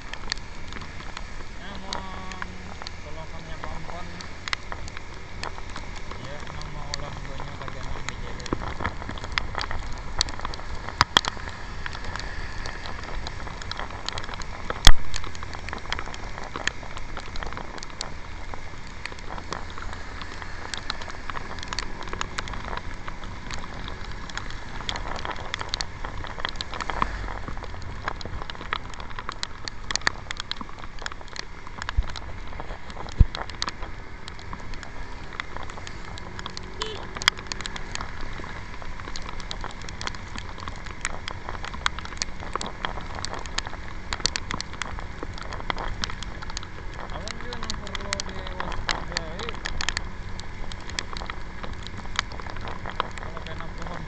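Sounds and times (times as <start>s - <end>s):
raindrops ticking on camera: 0.0s - 54.0s
tyres on wet road: 0.0s - 54.0s.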